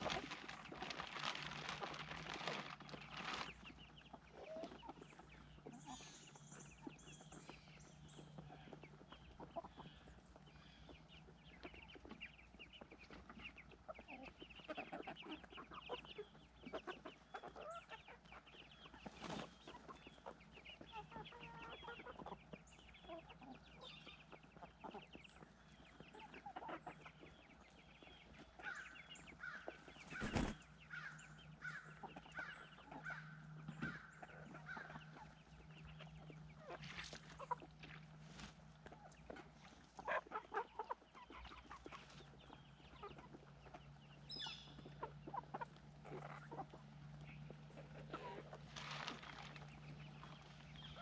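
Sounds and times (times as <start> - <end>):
hens clucking: 0.0 - 51.0.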